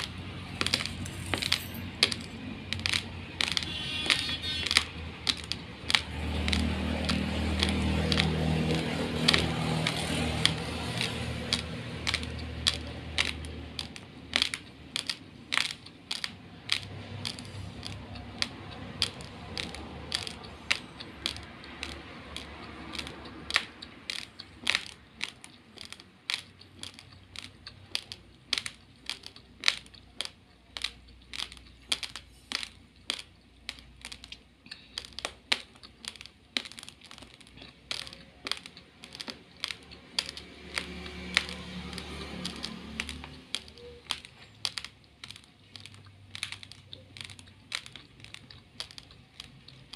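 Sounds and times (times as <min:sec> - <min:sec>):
crunching uncooked rice: 0:00.0 - 0:49.9.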